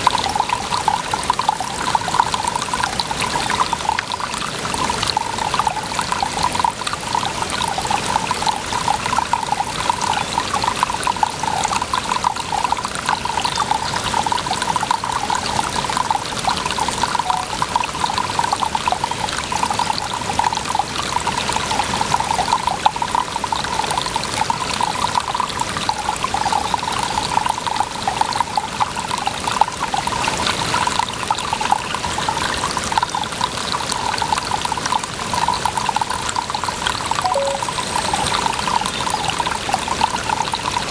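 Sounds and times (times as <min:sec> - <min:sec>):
water pouring and trickling: 0:00.0 - 0:40.9.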